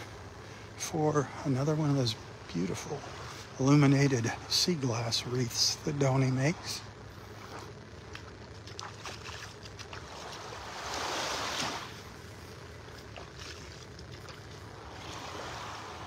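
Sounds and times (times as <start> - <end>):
waves lapping on sand: 0.7 - 16.0.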